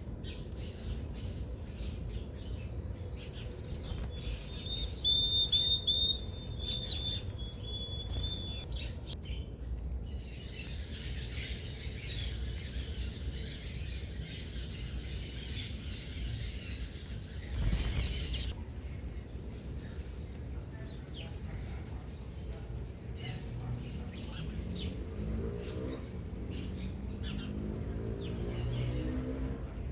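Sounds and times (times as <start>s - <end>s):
overlapping high bird chirps: 0.2s - 9.5s, 10.1s - 29.8s.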